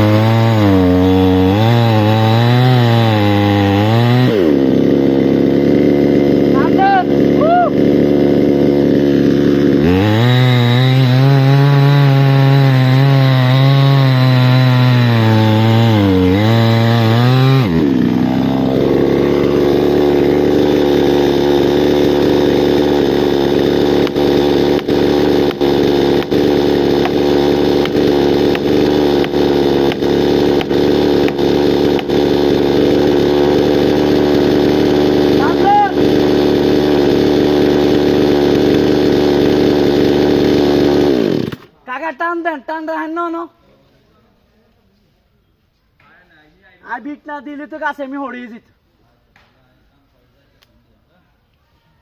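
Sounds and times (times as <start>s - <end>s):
chainsaw cutting wood: 0.0s - 41.8s.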